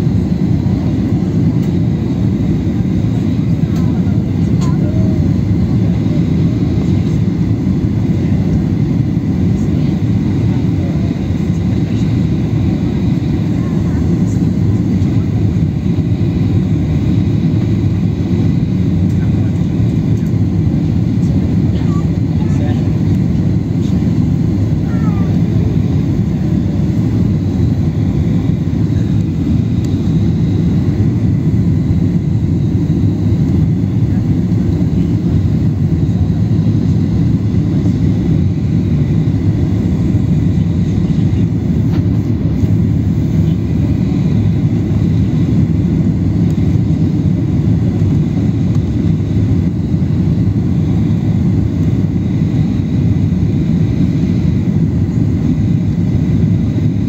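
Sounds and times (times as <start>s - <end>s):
jet cabin engine roar: 0.0s - 57.0s.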